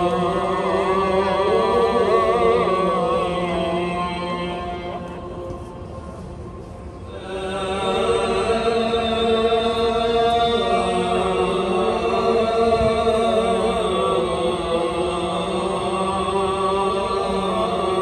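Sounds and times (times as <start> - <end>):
man chanting over loudspeakers: 0.0 - 6.2, 7.0 - 18.0.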